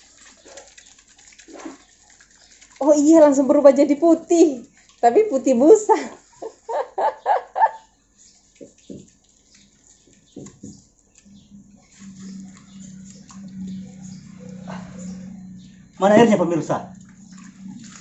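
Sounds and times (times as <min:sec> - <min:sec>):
water running from a garden hose: 0:00.0 - 0:07.4, 0:08.1 - 0:18.0.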